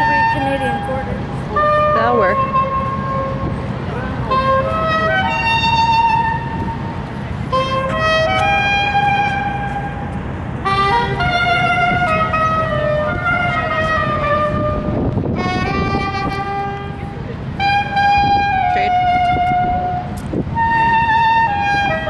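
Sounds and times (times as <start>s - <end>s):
soprano saxophone melody: 0.0s - 3.5s, 4.2s - 6.8s, 7.4s - 22.0s
city traffic: 0.0s - 22.0s.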